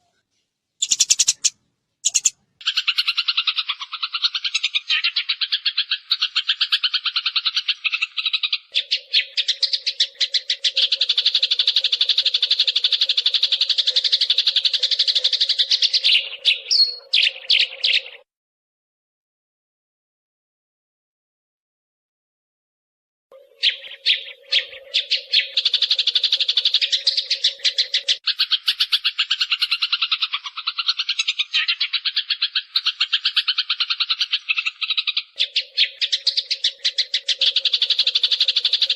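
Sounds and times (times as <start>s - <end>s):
sparrows chirping rapidly: 0.8s - 18.2s, 23.4s - 38.9s.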